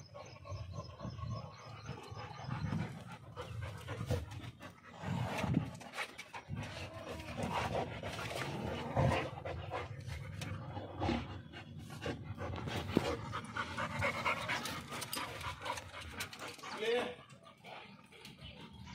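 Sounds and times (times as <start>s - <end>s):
dogs panting and sniffing: 0.0s - 18.9s.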